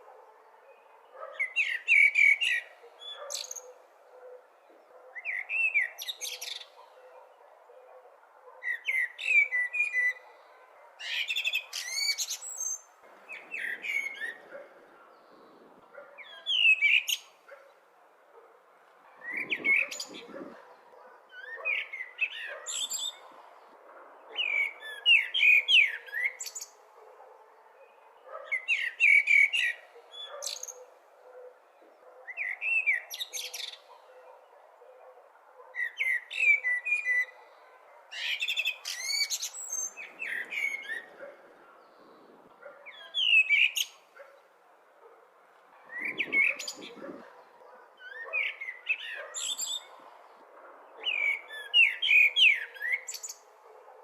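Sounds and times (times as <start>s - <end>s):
blackbird singing: 0.0s - 17.7s, 19.2s - 23.4s, 24.2s - 34.6s, 35.7s - 44.5s, 45.9s - 50.0s, 50.9s - 53.5s.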